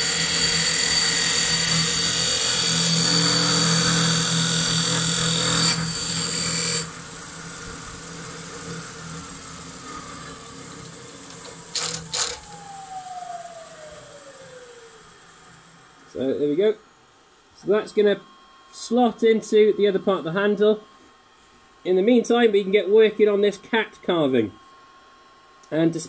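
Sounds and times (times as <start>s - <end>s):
lathe motor hum and whine: 0.0s - 26.0s.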